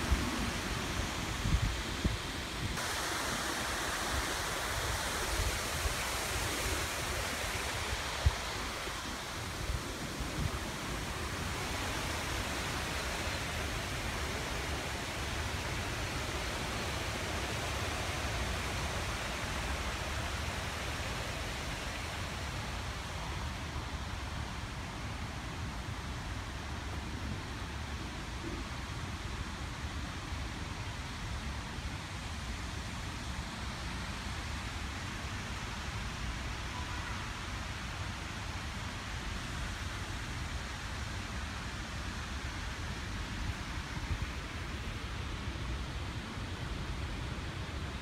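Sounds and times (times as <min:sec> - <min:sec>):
rushing outdoor noise: 0:00.0 - 0:48.0.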